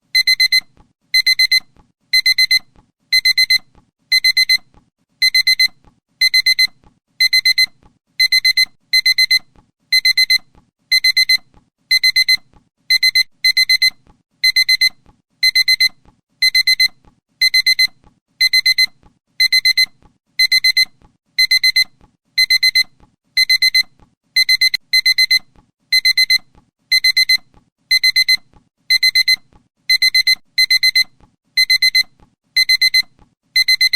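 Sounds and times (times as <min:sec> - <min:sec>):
electronic alarm beeping: 0:01.2 - 0:01.6, 0:02.2 - 0:04.6, 0:05.2 - 0:33.9.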